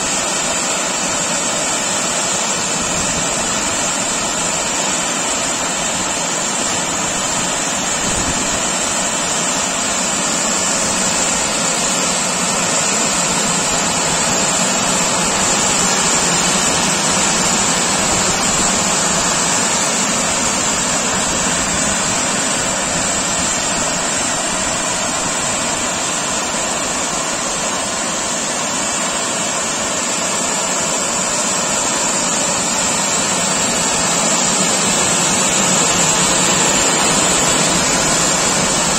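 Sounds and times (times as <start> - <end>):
car wash blowers rushing air: 0.0 - 38.9
high whine: 0.0 - 38.9.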